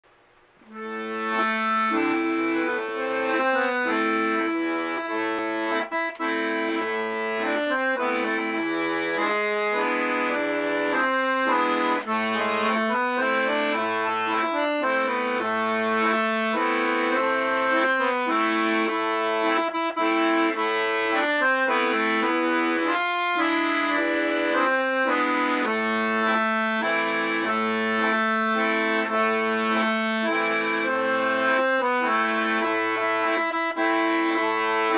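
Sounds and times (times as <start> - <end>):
accordion playing folk waltz: 0.7 - 34.9.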